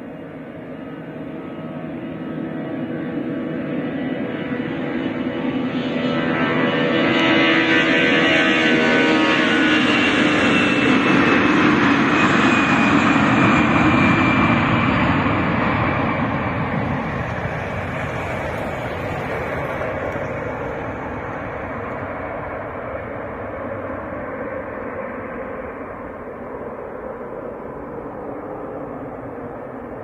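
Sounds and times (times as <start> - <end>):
jet engines roaring on takeoff: 0.0 - 30.0.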